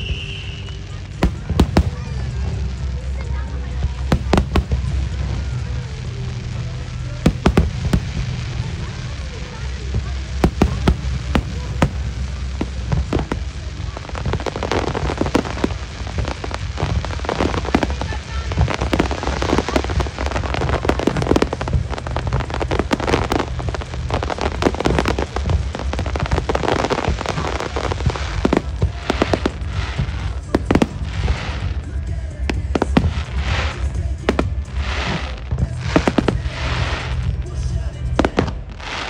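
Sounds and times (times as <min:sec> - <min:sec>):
fireworks bangs and crackling: 0:00.0 - 0:39.0
steady low rumble: 0:00.0 - 0:39.0.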